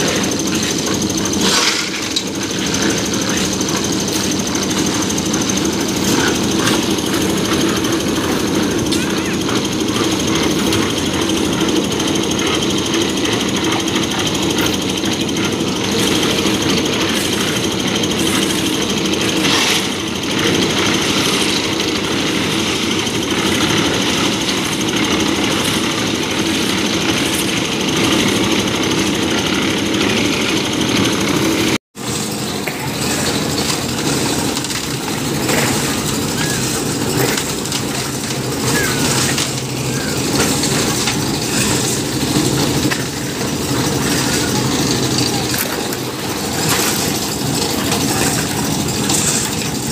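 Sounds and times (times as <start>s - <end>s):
concrete mixer running: 0.0s - 49.9s.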